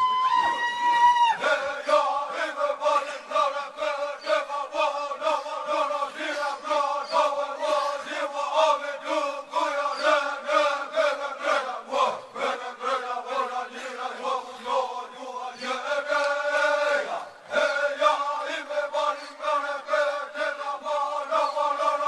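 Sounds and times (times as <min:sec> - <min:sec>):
voices chanting: 0:00.6 - 0:22.0.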